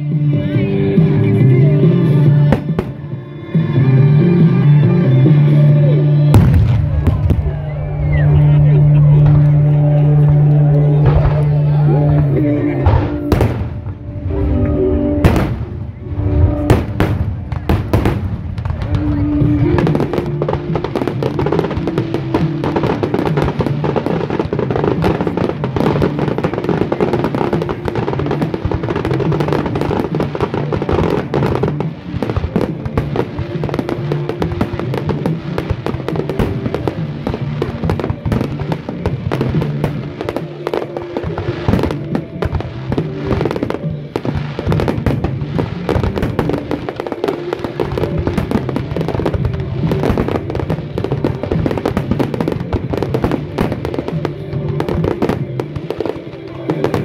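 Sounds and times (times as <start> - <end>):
fireworks bangs and crackling: 0.0 - 57.0
music playing: 0.0 - 57.0.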